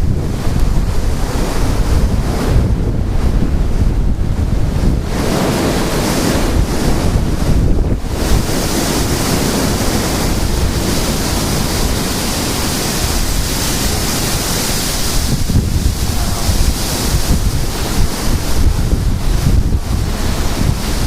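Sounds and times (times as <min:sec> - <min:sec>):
rushing wind hiss: 0:00.0 - 0:21.0
wind buffeting microphone: 0:00.0 - 0:21.0.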